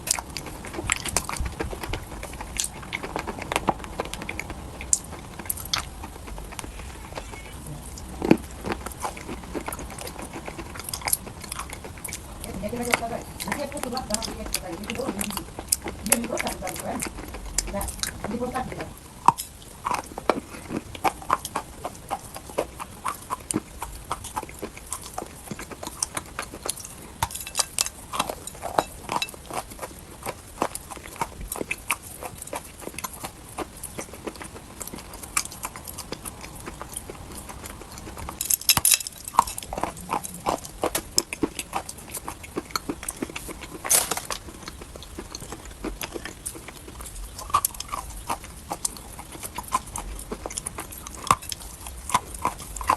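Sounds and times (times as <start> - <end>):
chalk crunching when chewed: 0.0 - 52.9.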